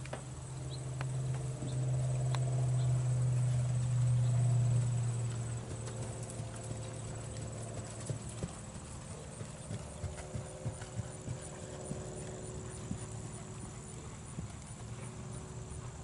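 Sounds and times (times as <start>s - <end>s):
horse hooves on soft dirt: 0.0s - 16.0s.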